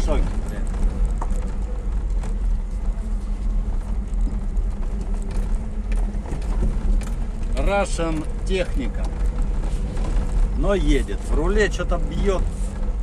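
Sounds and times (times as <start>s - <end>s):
body rattles knocks and creaks: 0.0s - 13.0s
van engine and road rumble: 0.0s - 13.0s.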